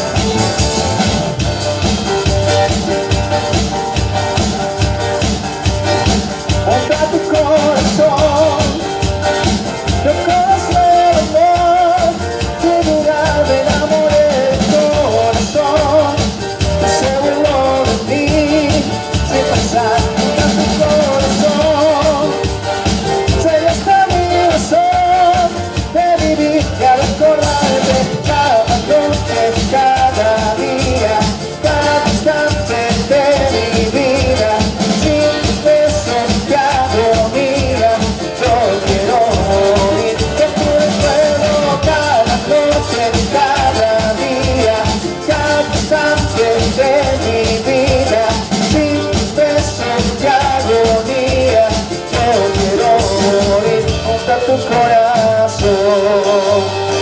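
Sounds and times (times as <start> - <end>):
band playing latin dance music: 0.0 - 57.0.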